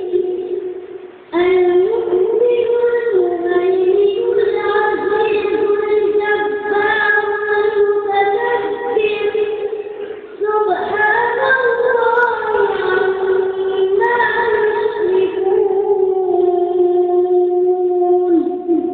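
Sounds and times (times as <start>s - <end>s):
high-pitched voice singing: 0.0s - 0.7s, 1.3s - 18.9s.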